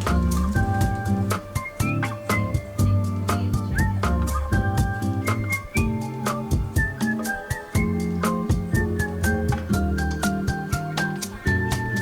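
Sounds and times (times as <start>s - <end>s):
light instrumental music with guitar: 0.0s - 12.0s.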